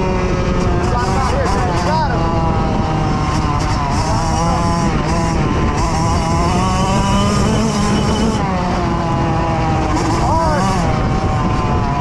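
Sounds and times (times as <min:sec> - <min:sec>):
dirt bike engine running hard: 0:00.0 - 0:12.0
wind rumble on microphone: 0:00.0 - 0:12.0.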